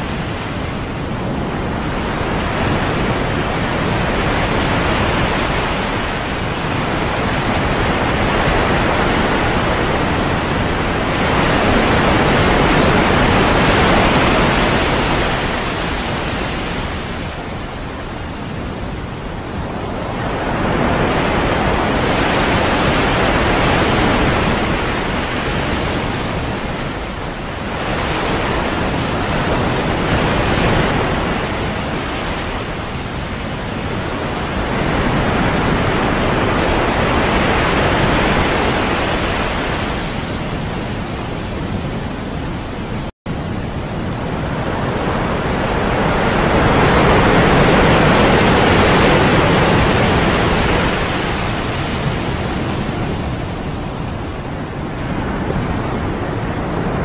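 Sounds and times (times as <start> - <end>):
waves washing in: 0.0 - 57.0.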